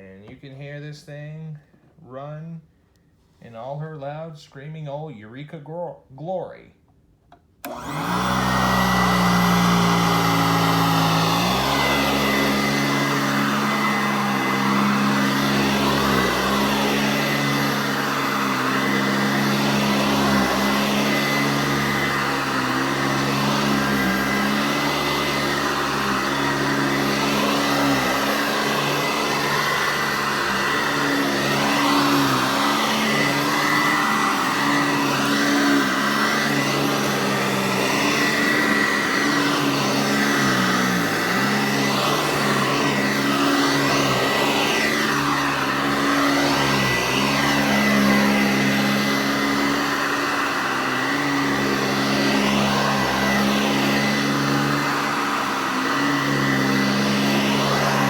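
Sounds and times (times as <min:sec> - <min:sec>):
vacuum cleaner whine: 0:07.3 - 0:58.0.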